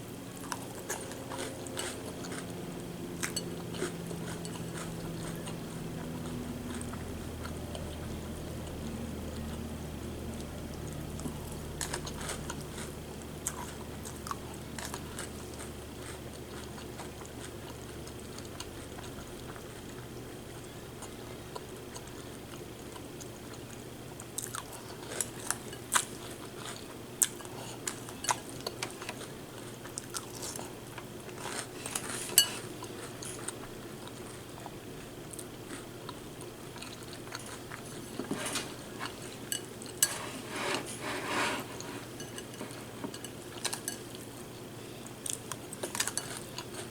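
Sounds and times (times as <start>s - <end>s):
person chewing cereal: 0.4s - 2.6s, 3.2s - 9.7s, 10.4s - 46.9s.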